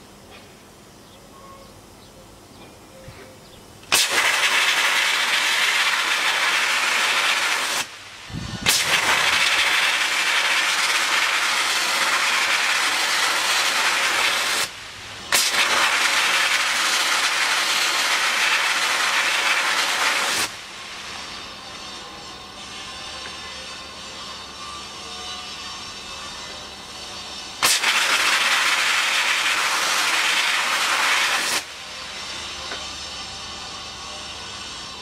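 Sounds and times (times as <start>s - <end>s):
sandblasting gun hissing: 3.8s - 35.0s.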